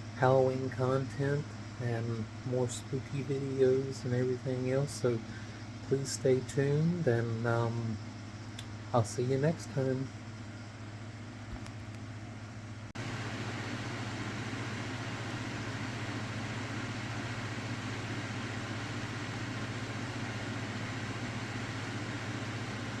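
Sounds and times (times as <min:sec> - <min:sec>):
vehicle running hum and hiss: 0:00.0 - 0:23.0.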